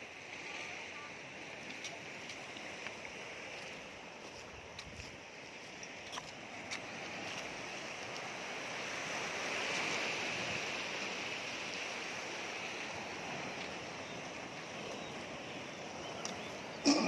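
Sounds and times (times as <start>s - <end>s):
sea waves washing on rocks: 0.0s - 17.0s.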